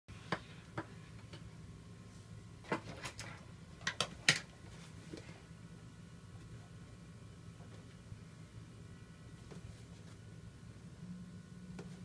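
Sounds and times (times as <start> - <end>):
faint low hum: 0.1 - 12.0.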